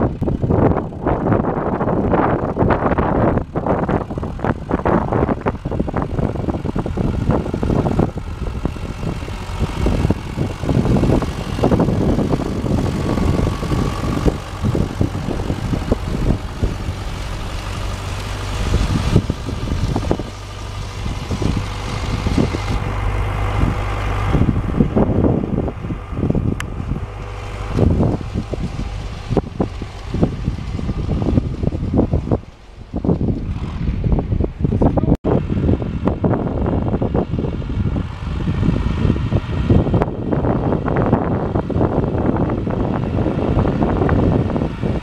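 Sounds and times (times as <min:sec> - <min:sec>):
tractor engine running: 0:00.0 - 0:45.0
wind on microphone: 0:00.0 - 0:45.0.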